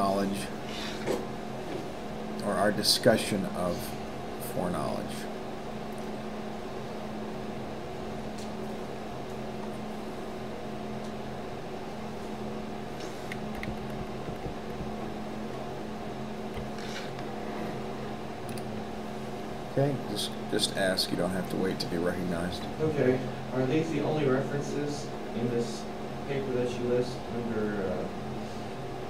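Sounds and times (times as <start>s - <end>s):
mechanical hum with low drone: 0.0s - 29.0s.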